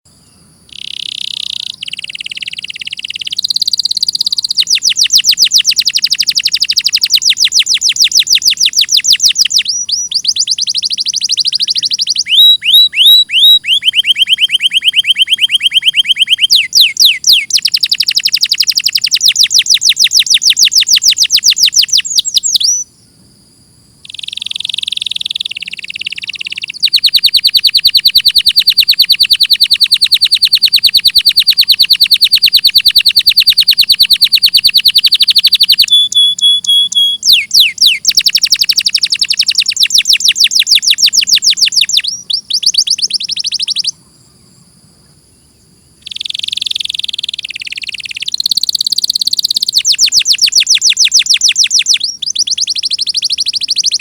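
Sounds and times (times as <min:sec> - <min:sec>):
canary singing trills: 0:00.1 - 0:22.9, 0:24.0 - 0:44.6, 0:45.3 - 0:54.0.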